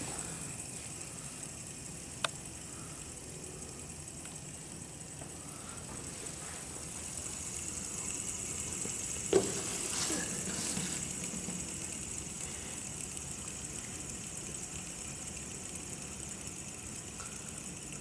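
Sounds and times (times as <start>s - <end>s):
fidget spinner whirring: 0.0s - 18.0s.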